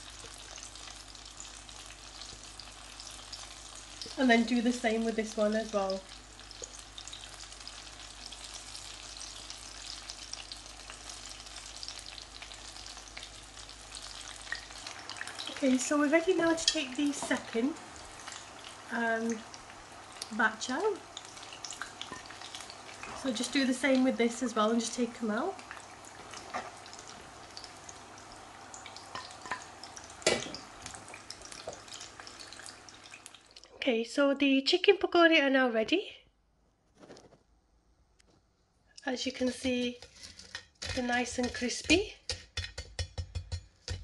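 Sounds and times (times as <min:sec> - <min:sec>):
food deep-frying in hot oil: 0:00.0 - 0:34.8, 0:38.9 - 0:44.0.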